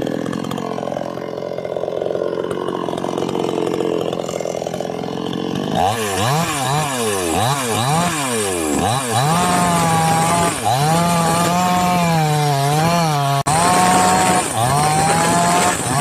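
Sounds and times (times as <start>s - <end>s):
chainsaw revving: 0.0s - 16.0s.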